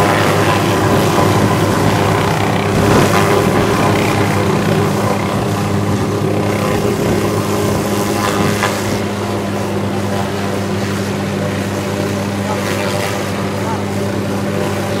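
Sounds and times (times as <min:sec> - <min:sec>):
helicopter turbine and rotor hum: 0:00.0 - 0:15.0.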